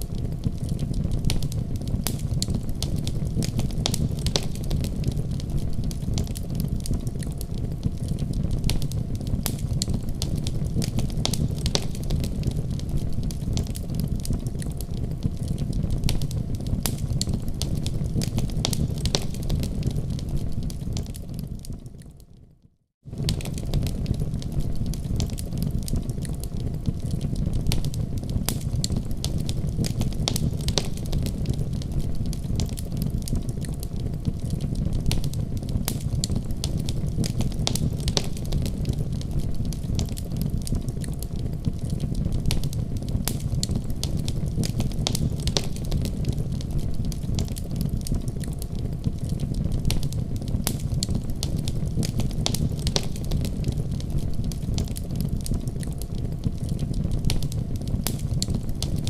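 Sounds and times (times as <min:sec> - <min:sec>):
wood fire crackling: 0:00.0 - 0:22.4, 0:23.0 - 0:59.0.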